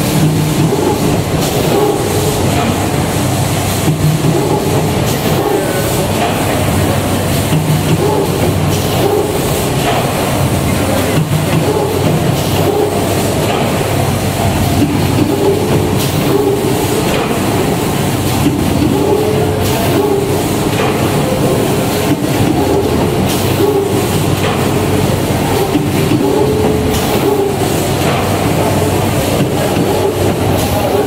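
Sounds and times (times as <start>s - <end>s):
pneumatic clicks and knocks: 0.0s - 10.4s, 11.1s - 14.1s, 14.7s - 28.7s
machine clattering: 0.0s - 31.0s.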